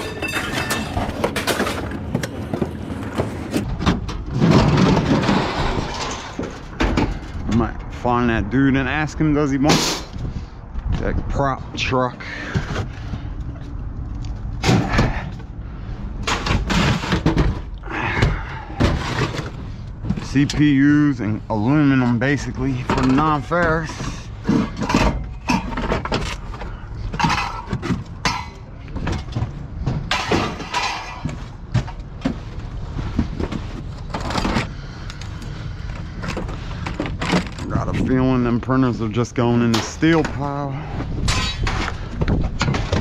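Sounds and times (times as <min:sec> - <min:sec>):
scrap metal bangs and thuds: 0:00.0 - 0:08.1, 0:14.5 - 0:34.9, 0:36.2 - 0:43.0
steady low rumble: 0:00.0 - 0:43.0.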